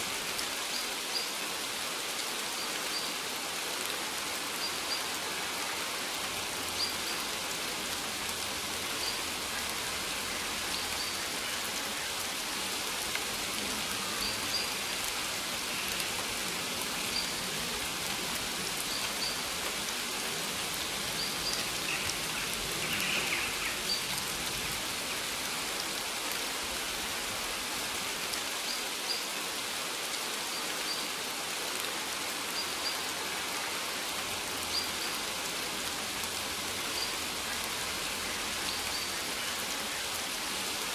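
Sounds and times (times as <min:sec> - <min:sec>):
rain pattering on plants: 0:00.0 - 0:40.9.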